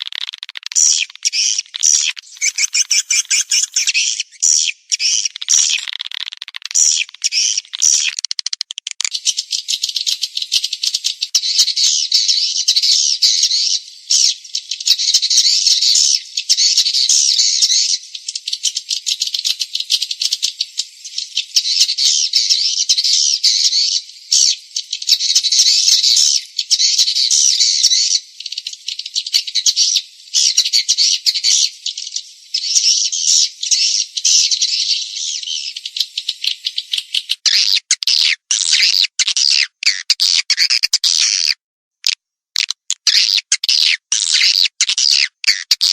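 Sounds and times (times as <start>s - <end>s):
high-pitched twittering bird chirps: 0.0s - 45.9s.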